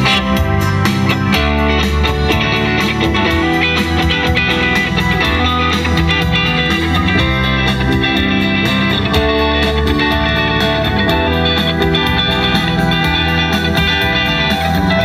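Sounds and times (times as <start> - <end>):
bass line: 0.0 - 15.0
electric guitar music: 0.0 - 15.0.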